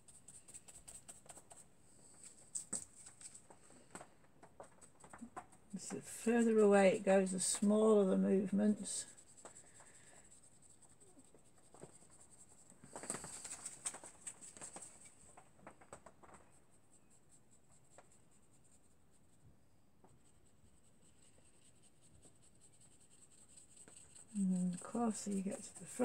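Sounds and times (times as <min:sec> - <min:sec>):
dry paintbrush strokes on paper: 0:00.0 - 0:03.9, 0:05.7 - 0:15.3, 0:16.5 - 0:19.4, 0:20.0 - 0:26.0.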